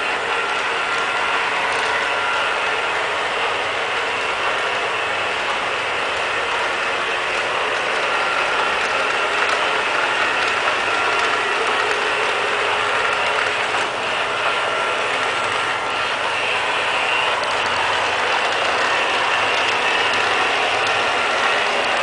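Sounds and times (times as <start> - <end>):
robot vacuum cleaner whirring: 0.0 - 22.0.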